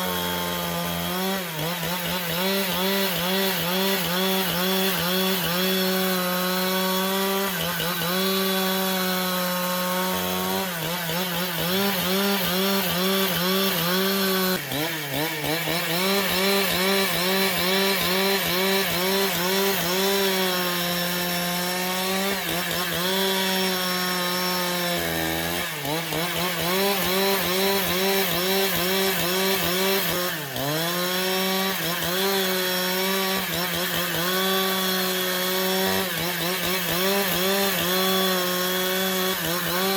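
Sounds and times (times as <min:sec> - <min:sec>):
engine saw cutting timber: 0:00.0 - 0:39.9.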